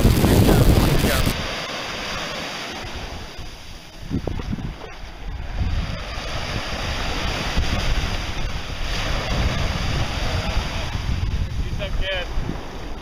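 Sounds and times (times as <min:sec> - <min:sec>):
small waves washing: 0:00.0 - 0:13.0
wind buffeting microphone: 0:00.0 - 0:13.0.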